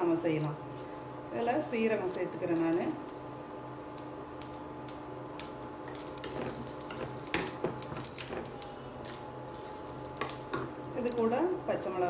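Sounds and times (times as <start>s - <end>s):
lentils crackling in a pan: 0.0s - 12.0s
steady low hum: 0.0s - 12.0s.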